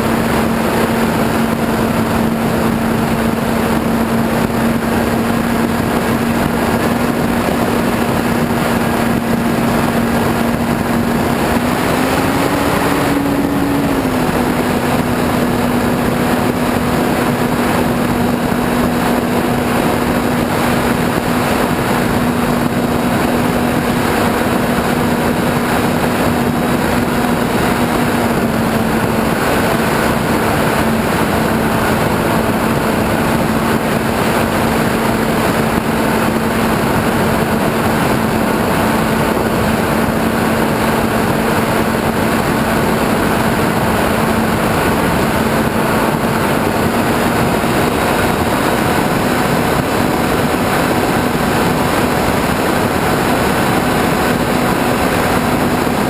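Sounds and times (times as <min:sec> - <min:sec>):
model airplane motor humming: 0:00.0 - 0:56.0
wind rushing: 0:00.0 - 0:56.0.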